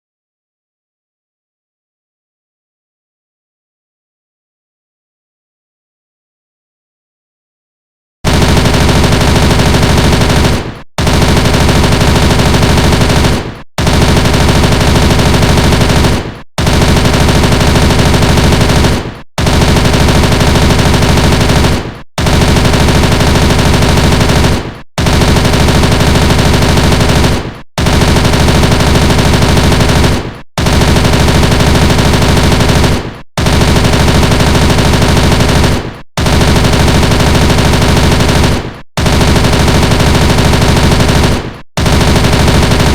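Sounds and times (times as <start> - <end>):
submachine gun automatic fire: 8.3 - 42.9.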